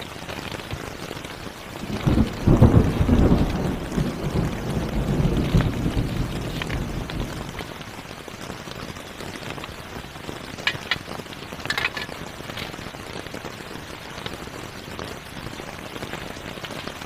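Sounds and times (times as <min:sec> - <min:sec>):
rain pattering on a tent: 0:00.0 - 0:17.0.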